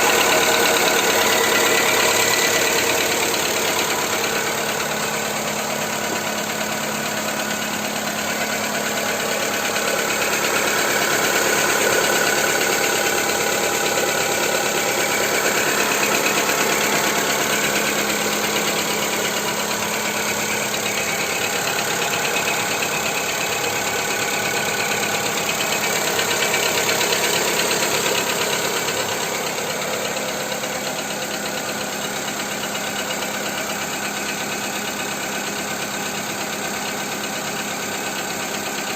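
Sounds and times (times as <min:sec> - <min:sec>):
car engine knocking tick: 0:00.0 - 0:38.9.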